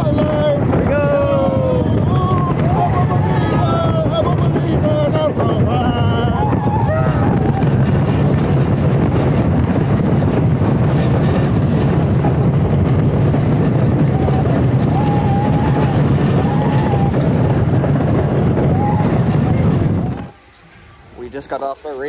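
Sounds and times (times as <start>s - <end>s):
roller coaster train rumbling: 0.0s - 22.0s
wind rush on microphone: 0.0s - 22.0s.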